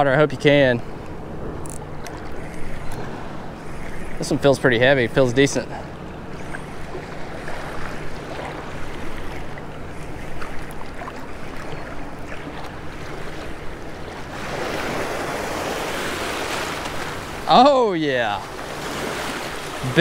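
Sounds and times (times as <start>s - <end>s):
surf lapping: 0.0s - 20.0s.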